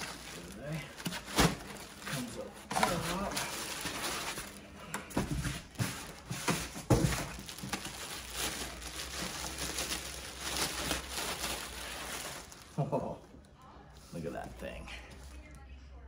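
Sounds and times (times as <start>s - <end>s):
plastic bag rustling: 0.0s - 13.2s.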